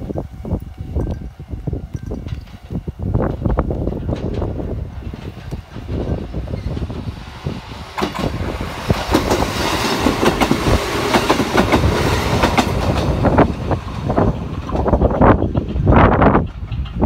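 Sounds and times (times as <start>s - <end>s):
train rumble: 0.0s - 17.0s
train wheels clacking: 2.0s - 17.0s.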